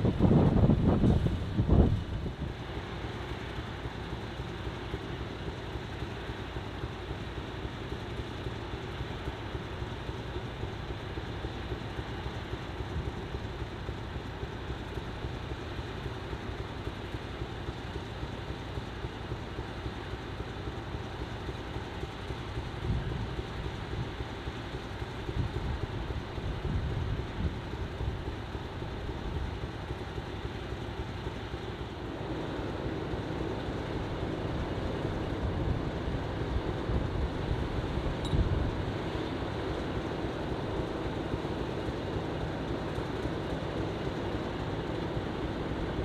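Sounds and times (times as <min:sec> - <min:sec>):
distant diesel locomotive idling: 0:00.0 - 0:46.0.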